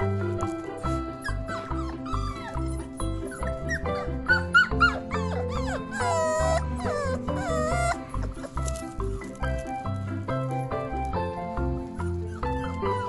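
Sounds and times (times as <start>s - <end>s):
puppies whining and yipping: 0.0s - 9.8s, 12.0s - 13.0s
background music with steady beat: 0.0s - 13.0s.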